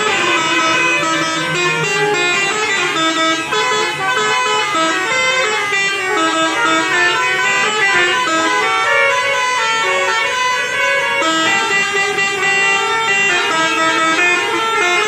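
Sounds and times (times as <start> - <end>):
multi-tone bus horns playing melodies: 0.0 - 15.0.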